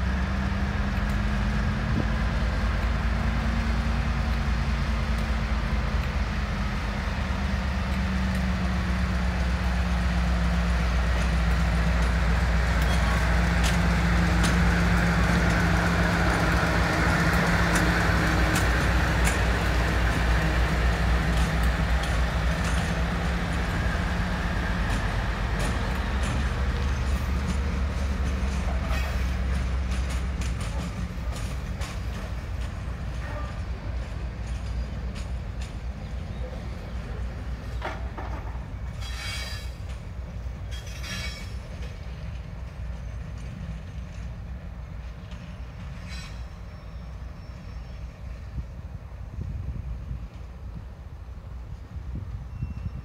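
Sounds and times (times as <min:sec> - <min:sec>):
diesel locomotive engine: 0:00.0 - 0:53.0.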